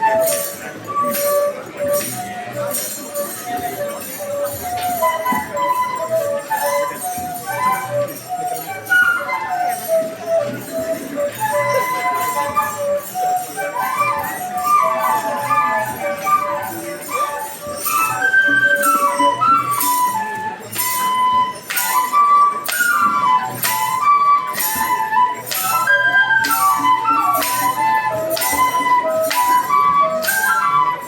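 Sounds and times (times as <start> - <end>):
flute playing quick melody: 0.0 - 31.0
jingling rattles shaken: 0.1 - 31.0.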